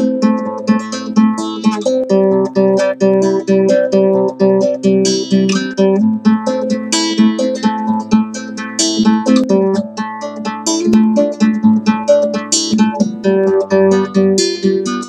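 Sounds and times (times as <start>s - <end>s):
classical guitar fingerstyle: 0.0s - 15.0s.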